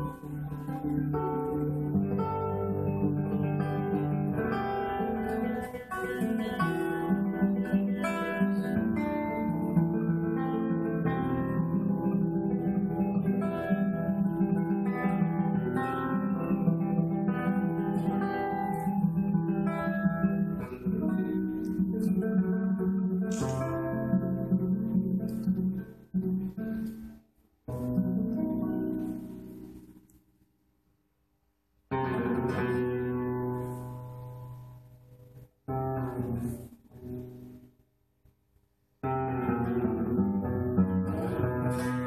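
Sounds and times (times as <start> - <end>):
classical guitar playing: 0.0 - 30.2, 31.9 - 37.7, 39.0 - 42.0.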